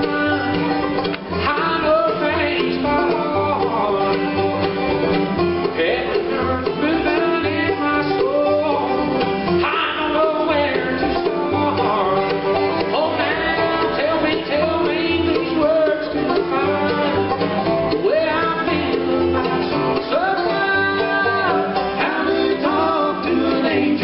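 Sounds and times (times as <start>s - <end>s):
bluegrass band playing: 0.0s - 24.0s
upright bass pulsing: 0.0s - 24.0s.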